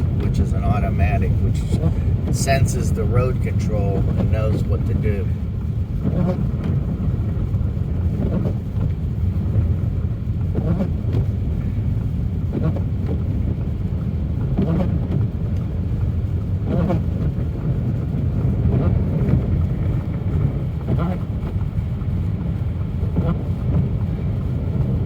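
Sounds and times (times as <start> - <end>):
car driving on snowy road: 0.0 - 25.0.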